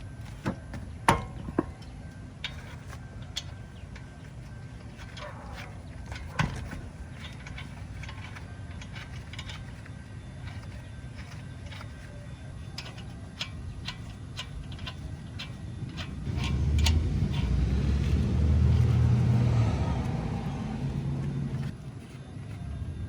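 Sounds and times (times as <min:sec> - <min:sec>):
engine rumble: 0:00.0 - 0:23.0
metallic clicks of lug nuts: 0:00.2 - 0:22.2.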